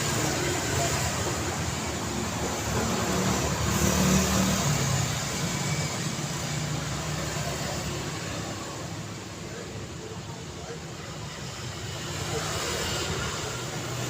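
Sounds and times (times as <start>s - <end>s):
car passing close: 0.0s - 14.0s
steady traffic noise: 0.0s - 14.0s.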